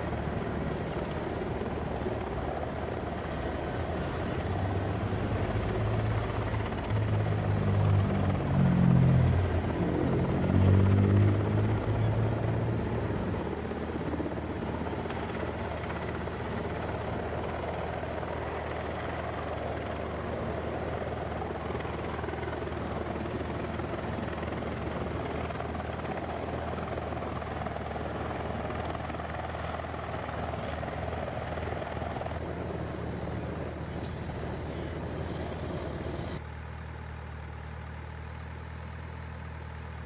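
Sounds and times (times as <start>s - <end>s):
helicopter rotor and engine drone: 0.0s - 40.0s.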